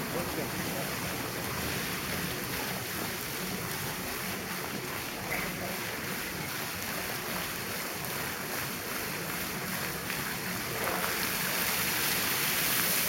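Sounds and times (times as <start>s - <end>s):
fountain water splashing on stone: 0.0s - 13.0s.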